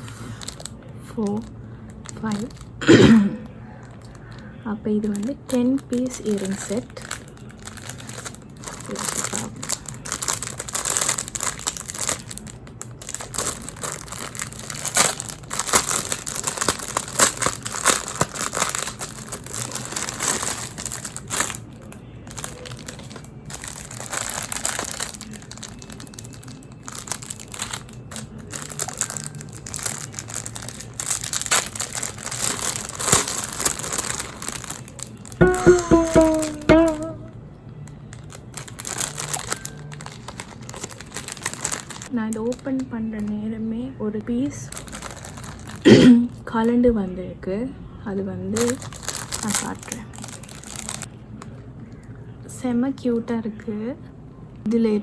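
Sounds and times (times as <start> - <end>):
packaging crinkling and rustling: 0.0 - 2.8, 3.4 - 36.8, 37.8 - 43.4, 44.5 - 45.8, 48.5 - 52.1.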